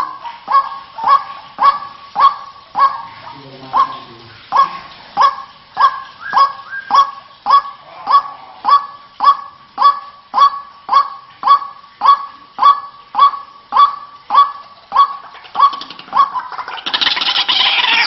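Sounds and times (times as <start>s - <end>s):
waterhen harsh calls: 0.0s - 18.0s.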